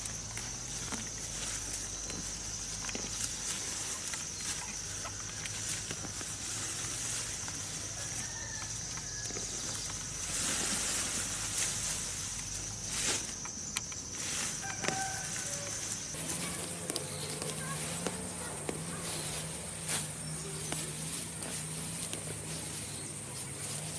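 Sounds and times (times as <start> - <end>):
high insect drone: 0.0 - 23.9
leaves rustling: 0.0 - 23.9.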